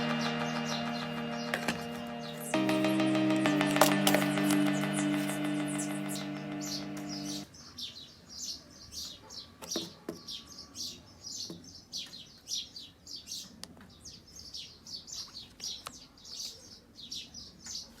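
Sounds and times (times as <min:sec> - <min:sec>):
bird chirping: 0:00.0 - 0:17.9.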